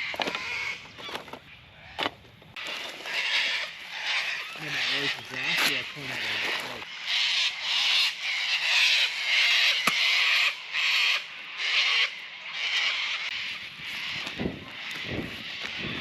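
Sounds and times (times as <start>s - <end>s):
hissy rasping animal calls: 2.6s - 16.0s.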